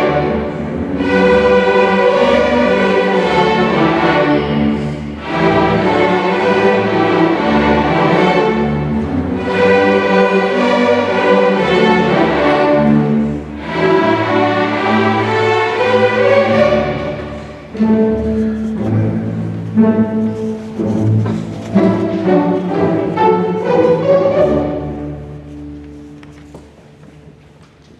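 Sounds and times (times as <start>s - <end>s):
student string orchestra playing: 0.0s - 27.9s.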